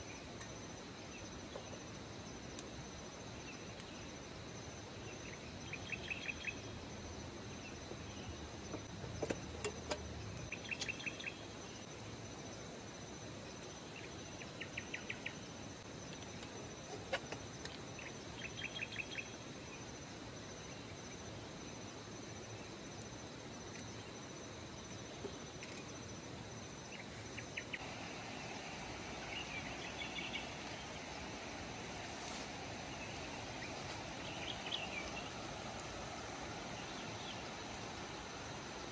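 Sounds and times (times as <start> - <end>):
insects chirping trills: 0.0 - 38.9.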